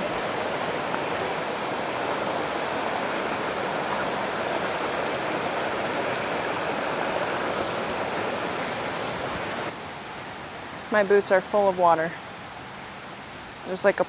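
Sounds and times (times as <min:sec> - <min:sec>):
stream rushing: 0:00.0 - 0:14.0.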